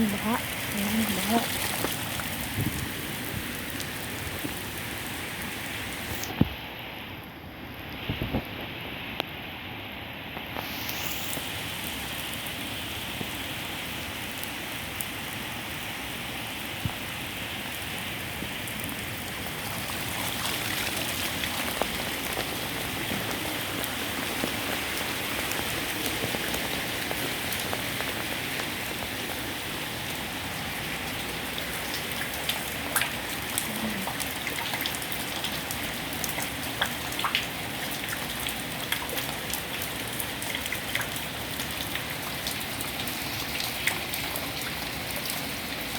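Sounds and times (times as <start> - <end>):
heavy rain pouring: 0.0 - 6.4, 10.6 - 45.9
raindrops ticking on surface: 0.0 - 6.6, 10.4 - 45.9.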